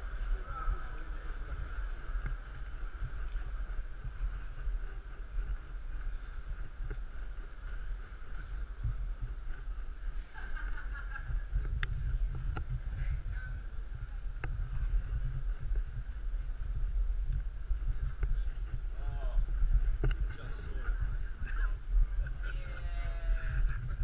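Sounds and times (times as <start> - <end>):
hall ambience hum and hiss: 0.0 - 24.0.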